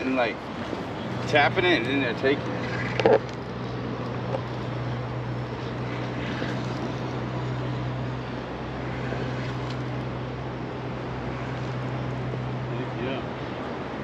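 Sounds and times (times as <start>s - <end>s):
distant engine drone: 0.0s - 14.0s
rushing outdoor noise: 0.0s - 14.0s.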